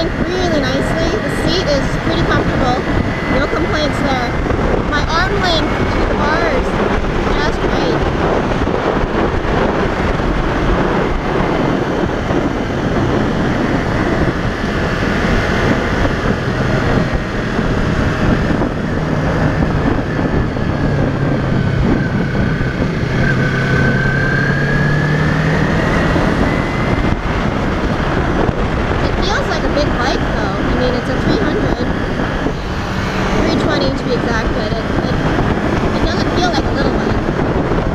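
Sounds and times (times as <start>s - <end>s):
motorcycle engine running: 0.0s - 37.9s
wind rushing over microphone: 0.0s - 37.9s.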